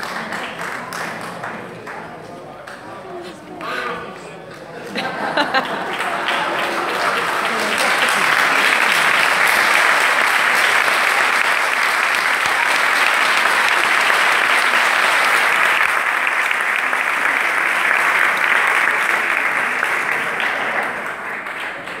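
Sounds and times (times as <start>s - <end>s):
audience applauding: 0.0s - 3.0s, 3.6s - 22.0s.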